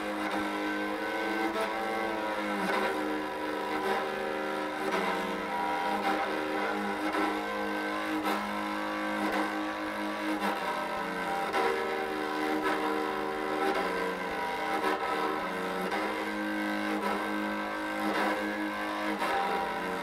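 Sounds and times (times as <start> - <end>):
bowed lyre melody: 0.0 - 20.0
drone string: 0.0 - 20.0.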